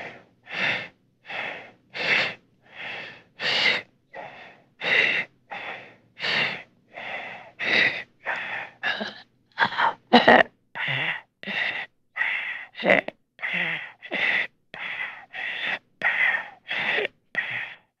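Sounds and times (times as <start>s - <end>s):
person breathing fast in gasps: 0.0s - 10.1s, 10.8s - 18.0s.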